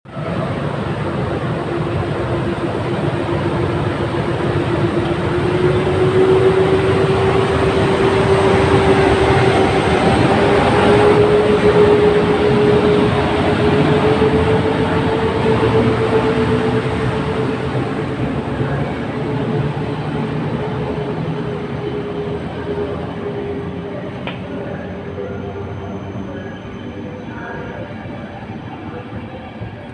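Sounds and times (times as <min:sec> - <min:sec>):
locomotive hum rising in pitch: 0:00.1 - 0:29.6
train wheels rumbling on rails: 0:00.1 - 0:29.9.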